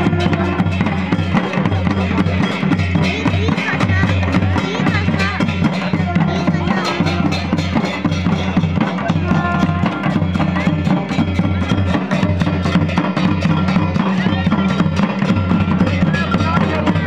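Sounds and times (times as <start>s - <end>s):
barrel drums beaten fast: 0.0s - 17.0s
crowd voices: 0.0s - 17.0s.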